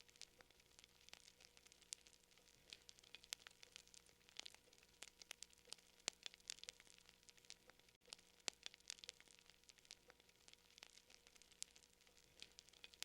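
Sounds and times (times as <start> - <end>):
faint fire crackling: 0.0 - 13.0.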